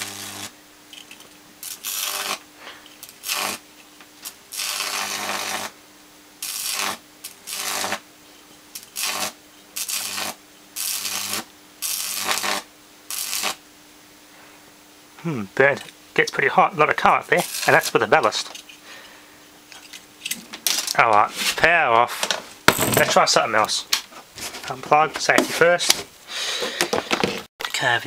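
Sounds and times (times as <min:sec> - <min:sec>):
electric arc crackling and buzzing: 0:00.0 - 0:14.5, 0:15.5 - 0:26.2.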